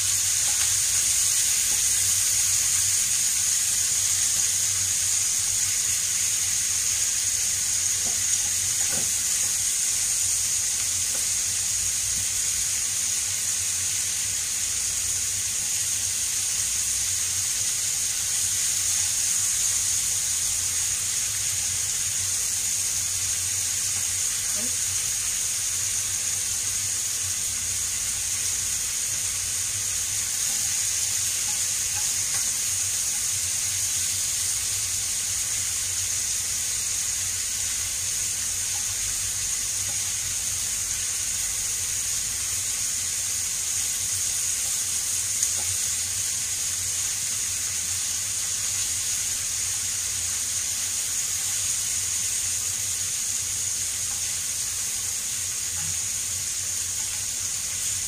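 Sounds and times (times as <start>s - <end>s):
meat and onion sizzling in pan: 0.0s - 58.0s.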